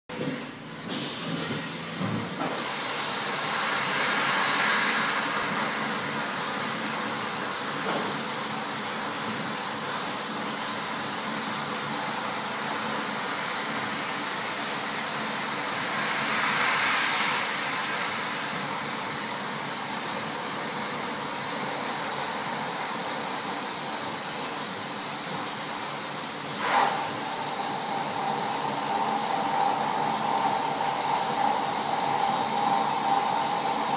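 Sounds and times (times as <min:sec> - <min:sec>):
coolant spray and milling hiss: 0:00.8 - 0:33.9.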